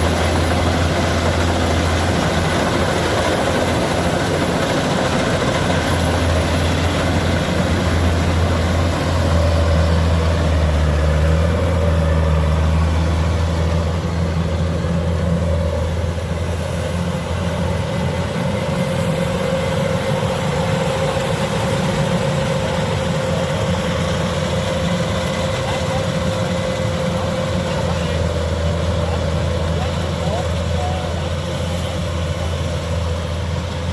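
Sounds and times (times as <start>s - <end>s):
combine harvester diesel engine humming: 0.0s - 33.9s.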